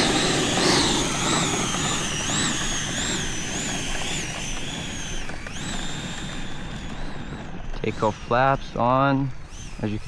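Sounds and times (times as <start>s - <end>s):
electric ducted fan whine: 0.0s - 10.0s.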